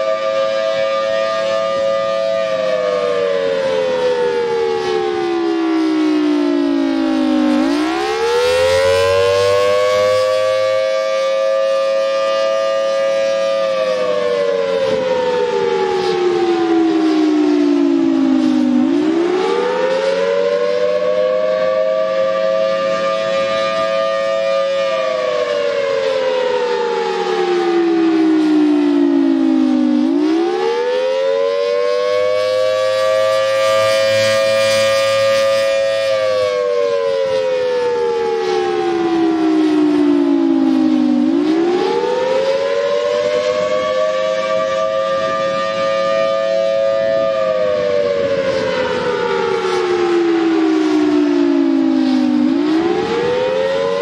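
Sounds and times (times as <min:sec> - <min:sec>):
wailing warning siren: 0:00.0 - 0:54.0.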